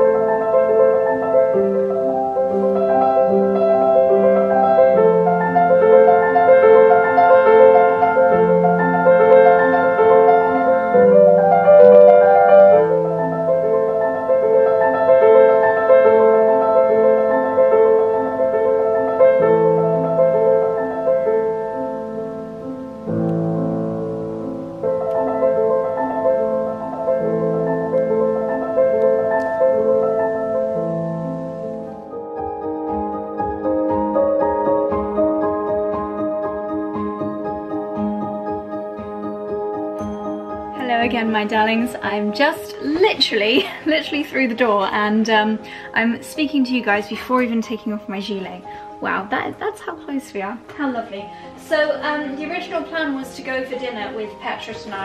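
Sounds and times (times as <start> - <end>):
grand piano classical piece: 0.0 - 55.0.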